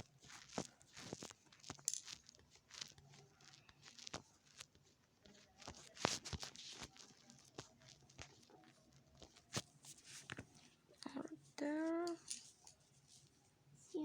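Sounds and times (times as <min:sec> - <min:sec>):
faint scattered clicks and taps: 0:00.0 - 0:14.0
rustling handling noise: 0:00.0 - 0:14.0.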